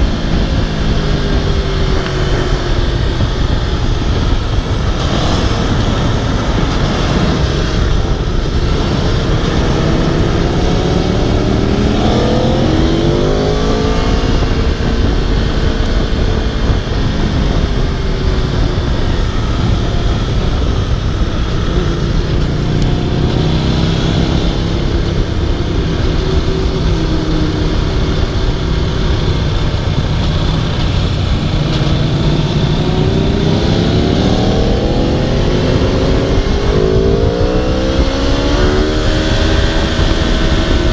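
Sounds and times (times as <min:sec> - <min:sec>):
motorcycle engine revving: 0:00.0 - 0:40.9
wind rush: 0:00.0 - 0:40.9.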